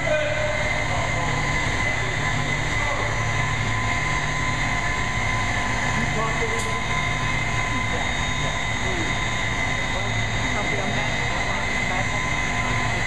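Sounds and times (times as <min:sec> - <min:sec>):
heavy machinery humming: 0:00.0 - 0:13.0
high whine: 0:00.0 - 0:13.0.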